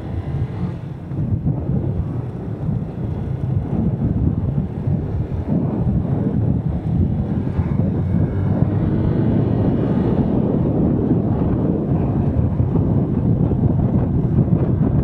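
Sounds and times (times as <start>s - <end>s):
motorcycle engine: 0.0s - 2.1s, 4.8s - 14.9s
wind buffeting microphone: 0.0s - 15.0s.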